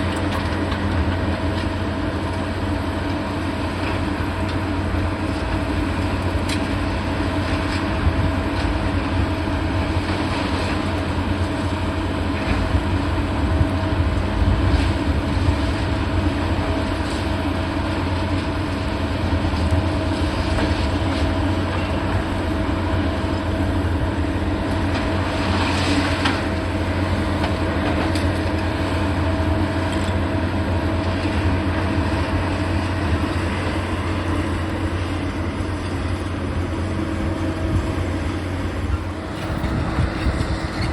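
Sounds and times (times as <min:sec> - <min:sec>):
diesel machinery rumbling: 0:00.0 - 0:40.9.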